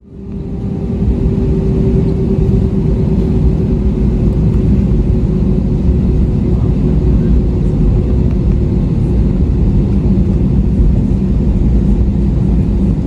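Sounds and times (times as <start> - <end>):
airplane cabin rumble: 0.0 - 13.0
constant cabin hum: 0.0 - 13.0.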